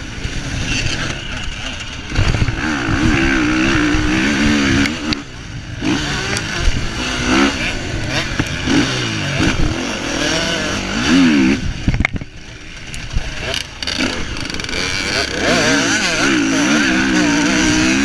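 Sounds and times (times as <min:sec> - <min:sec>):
motocross bike engine revving: 0:00.0 - 0:18.0.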